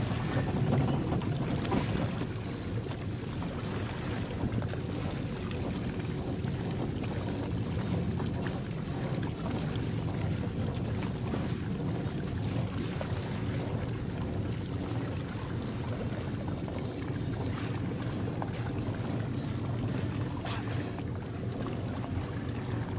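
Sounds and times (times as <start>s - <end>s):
boat motor running: 0.0s - 22.9s
water washing against hull: 0.0s - 22.9s.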